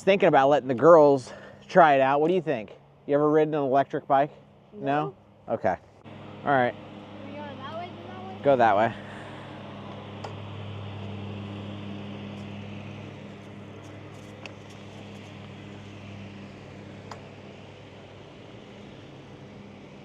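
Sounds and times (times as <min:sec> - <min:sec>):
outdoor background noise: 0:00.0 - 0:20.0
vehicle engine humming: 0:00.0 - 0:20.0.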